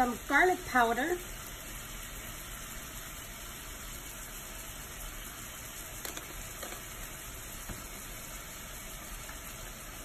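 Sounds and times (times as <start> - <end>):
meat sizzling in a skillet: 0.0 - 10.0.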